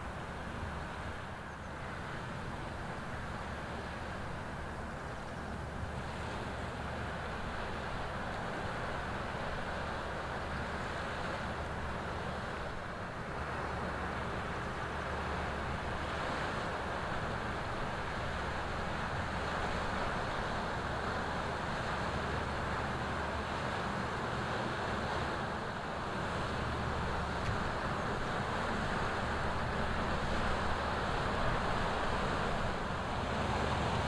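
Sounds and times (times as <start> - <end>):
ship diesel engine drone: 0.0 - 34.0.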